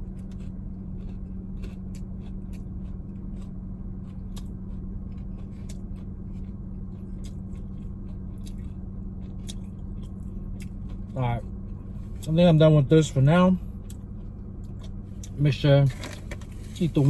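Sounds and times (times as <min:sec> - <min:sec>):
crunchy chewing: 0:00.0 - 0:17.0
low car cabin hum: 0:00.0 - 0:17.0.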